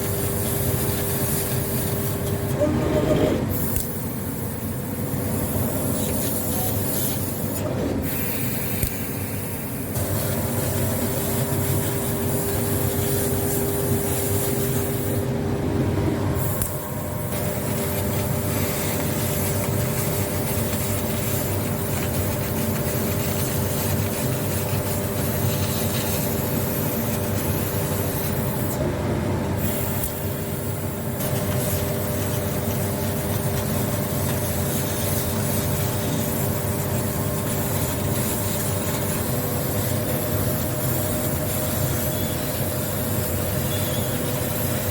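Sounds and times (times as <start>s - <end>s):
machine hiss: 0.0s - 15.4s, 16.2s - 28.8s, 29.6s - 44.9s
laser cutting machine humming: 0.0s - 44.9s.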